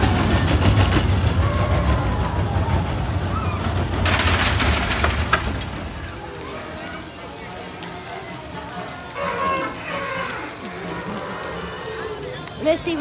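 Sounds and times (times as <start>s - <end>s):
roller coaster train rumbling on track: 0.0s - 13.0s.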